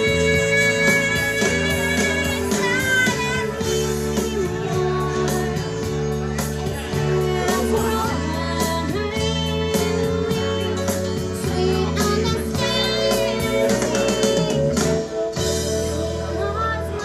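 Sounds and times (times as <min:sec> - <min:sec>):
guitar backing track: 0:00.0 - 0:17.0
woman singing into microphone: 0:00.0 - 0:17.0.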